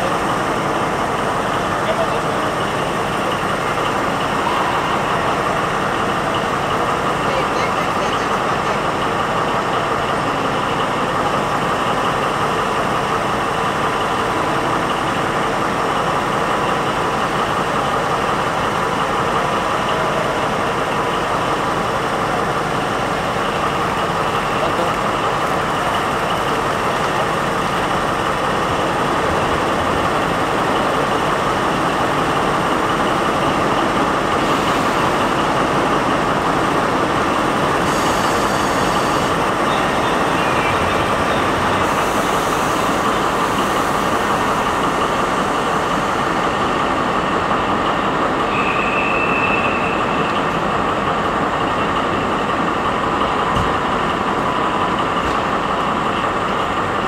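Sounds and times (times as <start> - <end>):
diesel locomotive engine idling: 0.0 - 57.0.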